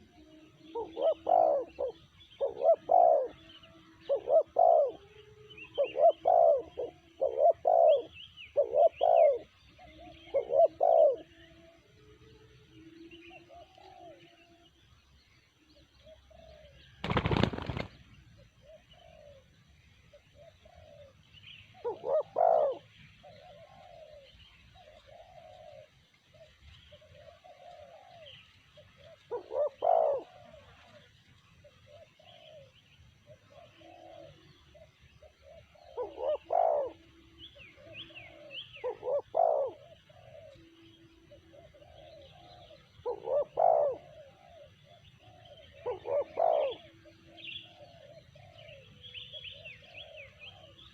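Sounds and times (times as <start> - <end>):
doves cooing: 0.0 - 14.8, 15.6 - 50.9
small birds chirping faintly: 0.0 - 50.9.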